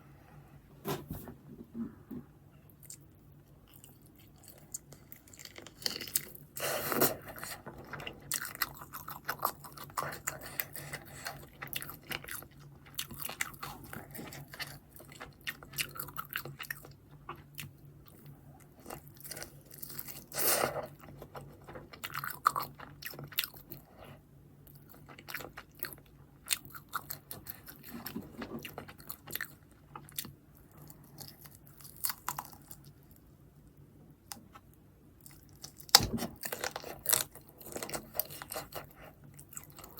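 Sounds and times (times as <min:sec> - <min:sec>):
crunchy bites and chewing: 0:03.7 - 0:23.9, 0:24.7 - 0:33.0, 0:35.2 - 0:39.9.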